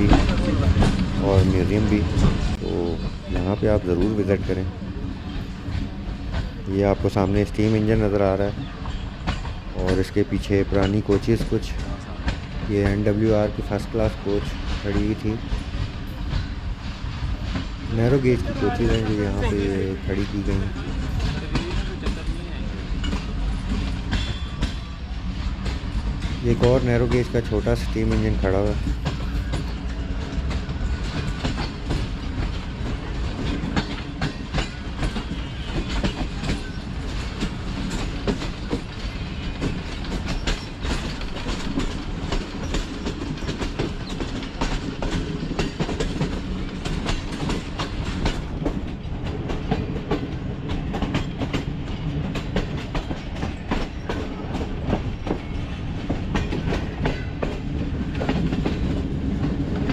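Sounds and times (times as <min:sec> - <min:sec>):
wheels clicking over rail joints: 0:00.0 - 0:17.9, 0:18.6 - 0:59.9
train rumbling: 0:00.0 - 0:59.9.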